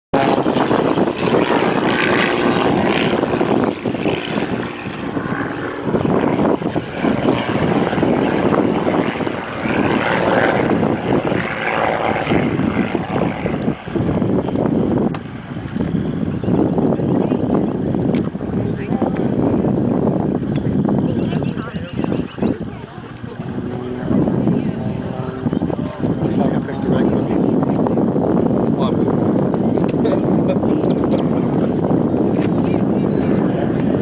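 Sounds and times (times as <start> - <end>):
propeller plane flying: 0.1 - 34.0.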